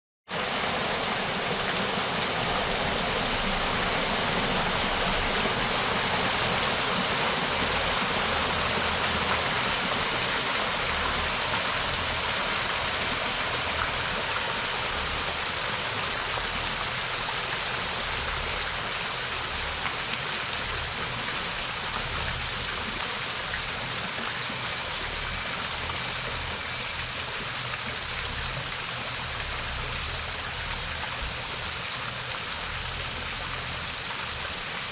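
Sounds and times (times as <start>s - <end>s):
fountain water splashing: 0.3s - 34.9s.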